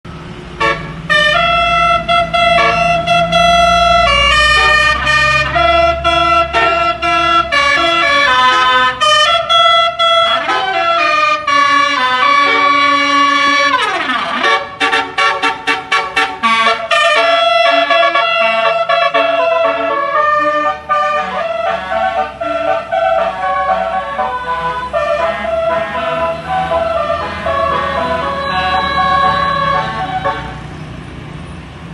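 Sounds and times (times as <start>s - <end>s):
musical bus air horn: 0.6s - 30.7s.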